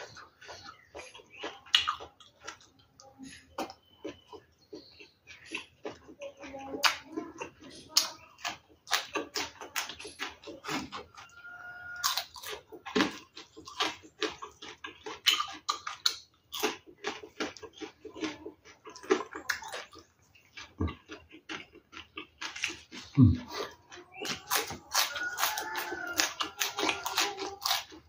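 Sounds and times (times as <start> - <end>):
person chewing and lip-smacking: 0.0 - 28.0.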